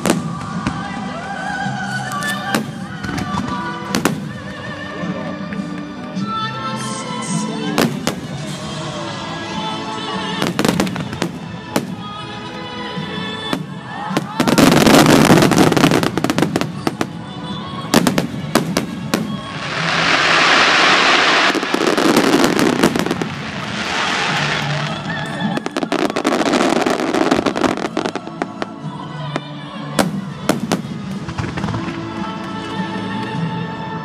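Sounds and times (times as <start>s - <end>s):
fireworks bursting and crackling: 0.0s - 4.8s, 7.2s - 32.9s
background music: 0.0s - 34.0s.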